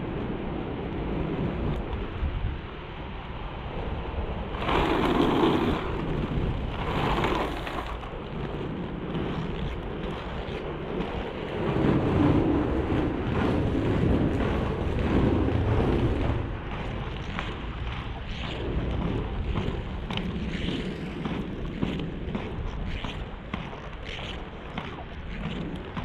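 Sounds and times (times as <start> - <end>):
wind buffeting microphone: 0.0 - 26.0
skate wheels rolling over pavement: 4.4 - 26.0.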